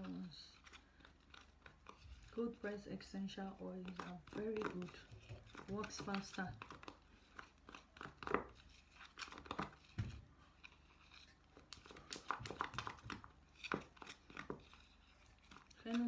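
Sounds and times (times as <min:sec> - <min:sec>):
packaging clicking and crinkling: 0:00.0 - 0:02.4, 0:03.7 - 0:16.0.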